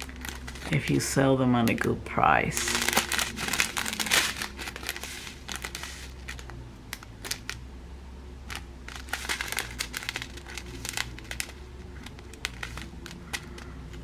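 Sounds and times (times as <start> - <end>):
plastic packets crinkling: 0.0 - 7.6, 8.4 - 14.0.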